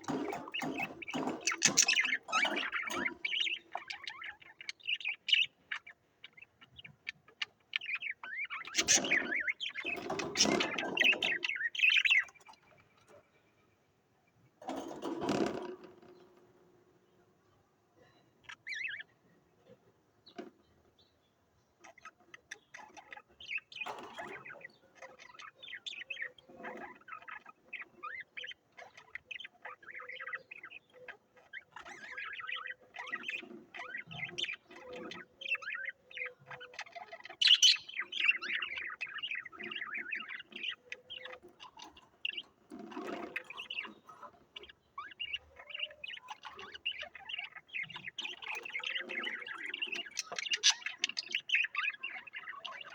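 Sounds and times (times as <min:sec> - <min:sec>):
cage birds chirping: 0:00.0 - 0:52.9.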